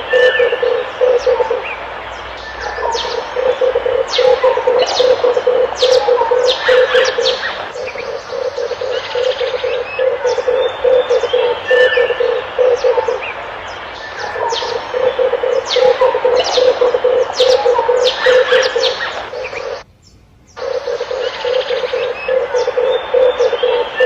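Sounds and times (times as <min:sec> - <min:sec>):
dove cooing: 0:00.0 - 0:19.8, 0:20.6 - 0:24.0
small birds chirping: 0:00.0 - 0:24.0.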